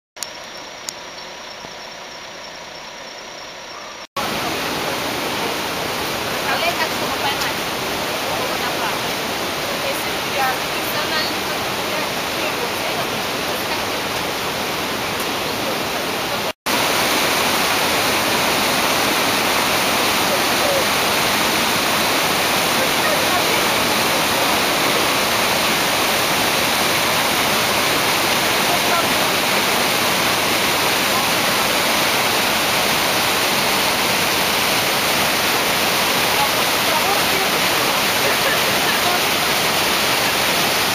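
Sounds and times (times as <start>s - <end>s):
waterfall rushing: 4.2s - 40.9s.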